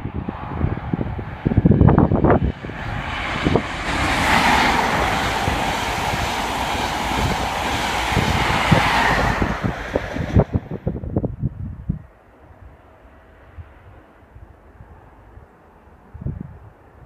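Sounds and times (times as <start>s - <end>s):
train passing at speed: 0.0s - 11.4s, 12.0s - 17.0s
wind buffeting microphone: 0.0s - 12.8s, 13.5s - 17.0s.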